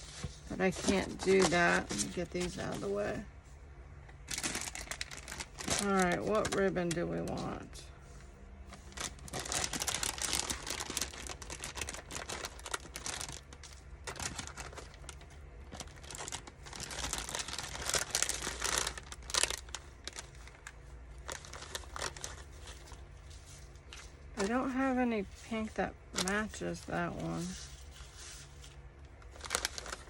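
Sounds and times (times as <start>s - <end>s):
craft materials crinkling and rustling: 0.0s - 3.2s, 4.1s - 7.8s, 8.6s - 30.0s.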